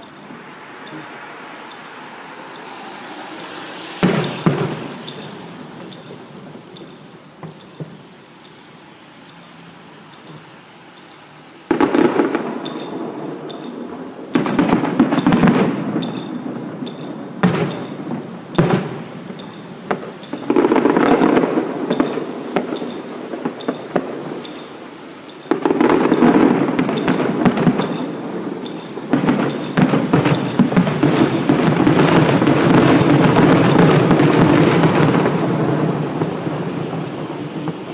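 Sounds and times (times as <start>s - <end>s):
fireworks crackling: 0.0s - 37.9s.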